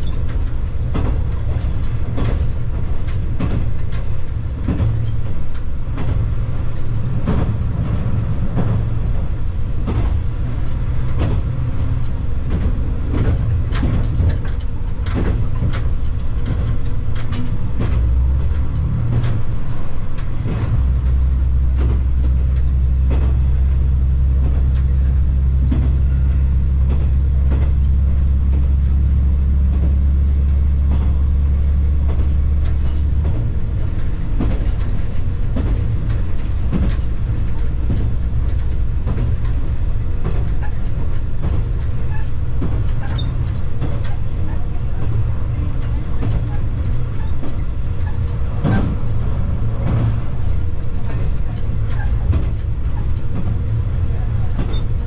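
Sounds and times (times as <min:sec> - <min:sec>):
railcar engine drone: 0:00.0 - 0:55.0
wheels clicking on track: 0:00.0 - 0:55.0.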